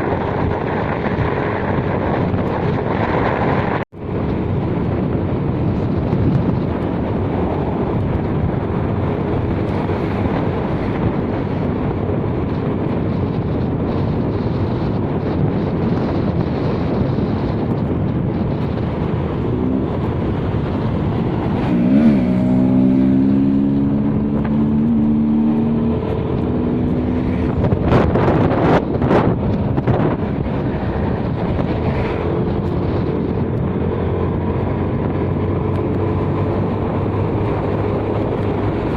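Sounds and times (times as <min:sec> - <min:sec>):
vehicle engine and road noise: 0:00.0 - 0:38.9.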